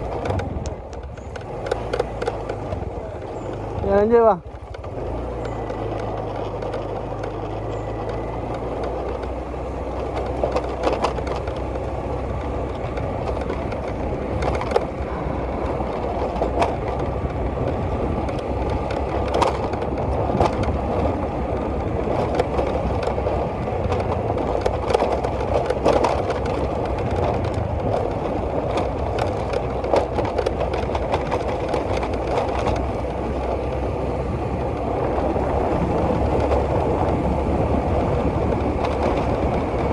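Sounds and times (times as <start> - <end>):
knocks and rattles: 0.0 - 39.9
small engine running: 1.2 - 39.9.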